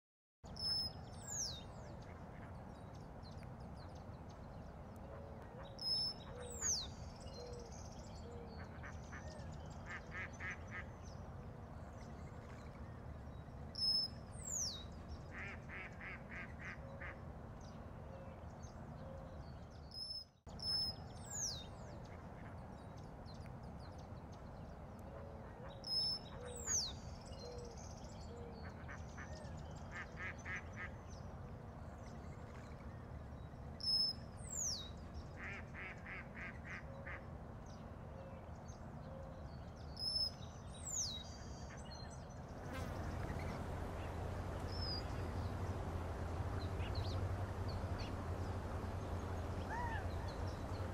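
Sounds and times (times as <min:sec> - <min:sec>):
steady low background noise: 0:00.5 - 0:50.9.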